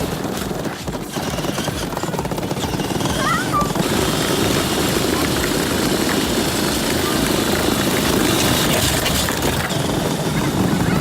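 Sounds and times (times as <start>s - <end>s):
toy truck motor running: 0.0s - 11.0s
wheels rolling over ground: 0.0s - 11.0s.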